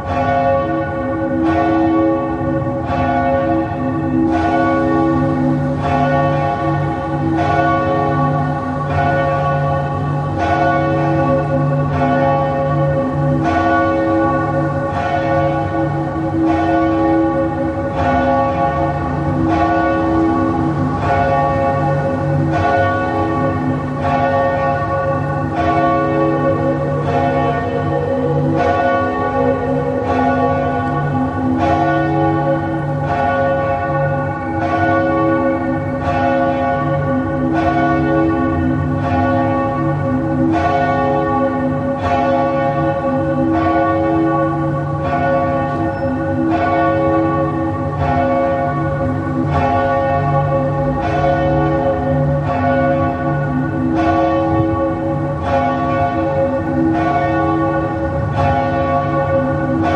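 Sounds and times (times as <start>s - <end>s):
church bells tolling: 0.0s - 59.9s.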